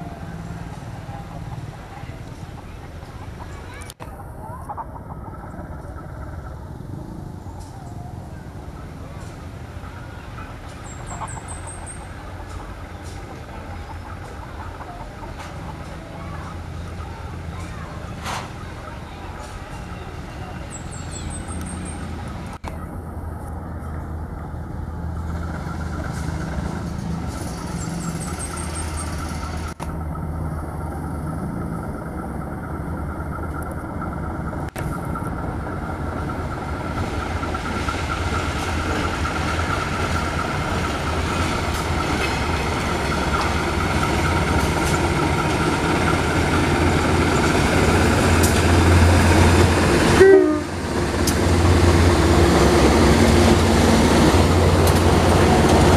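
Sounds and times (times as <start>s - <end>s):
locomotive engine drone: 0.0s - 55.9s
train wagons rolling past: 0.0s - 55.9s.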